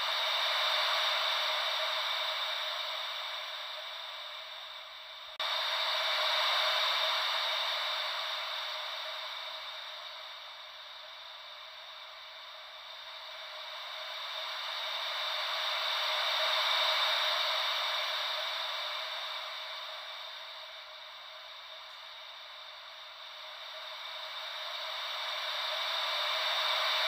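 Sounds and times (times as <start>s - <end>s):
ocean wave white noise: 0.0s - 27.0s.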